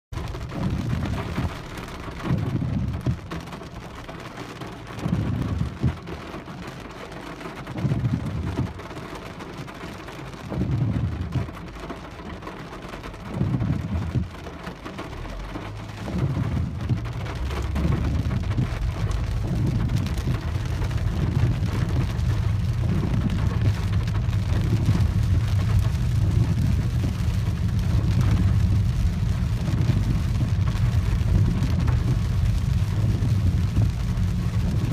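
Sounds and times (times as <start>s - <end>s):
heavy rain on car roof: 0.1s - 34.9s
tyres rumbling on wet road: 0.1s - 34.9s.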